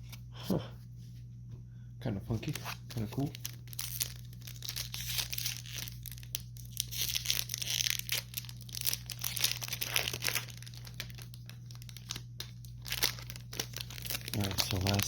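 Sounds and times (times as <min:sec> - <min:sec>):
low electrical hum: 0:00.0 - 0:15.0
cards and foil wrapper rustling: 0:02.3 - 0:15.0.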